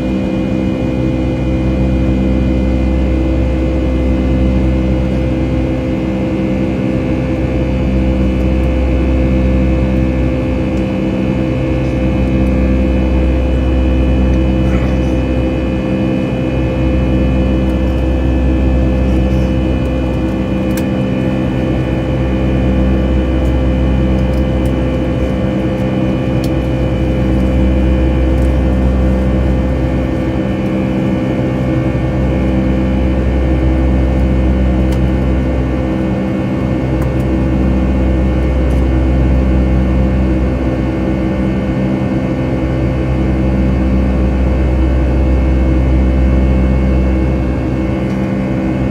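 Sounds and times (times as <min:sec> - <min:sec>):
jet engines droning in cabin: 0:00.0 - 0:48.9.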